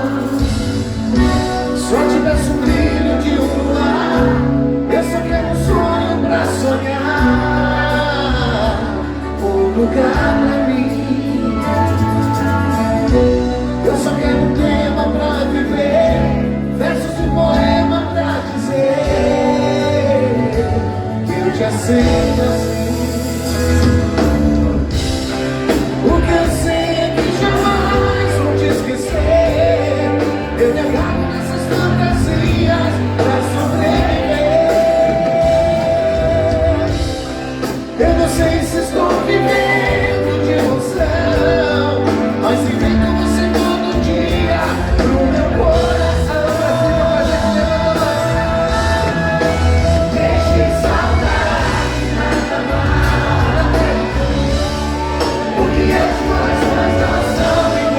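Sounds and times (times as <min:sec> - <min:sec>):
person singing: 0:00.0 - 0:24.6, 0:25.3 - 0:57.9
pop-rock band playing live: 0:00.0 - 0:57.9.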